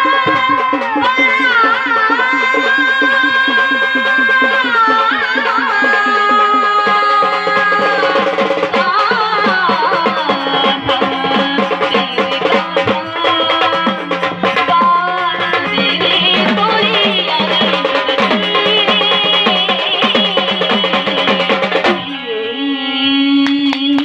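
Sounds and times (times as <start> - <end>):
hand drum rhythm: 0.0 - 22.1.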